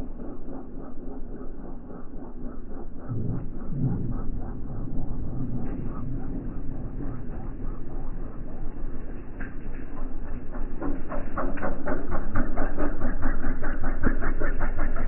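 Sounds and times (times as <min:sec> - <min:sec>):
slowed plane engine chugging: 0:00.0 - 0:15.0.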